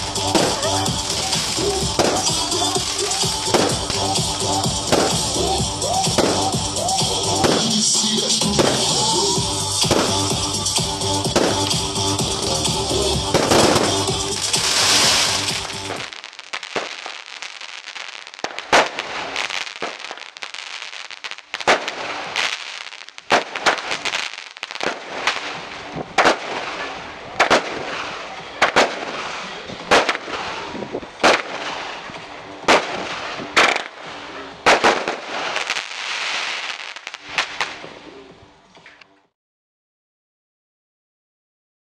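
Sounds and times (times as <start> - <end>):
fireworks bangs: 0.0 - 10.5, 11.2 - 12.4, 13.2 - 38.0
firework hiss and crackle: 0.0 - 38.0.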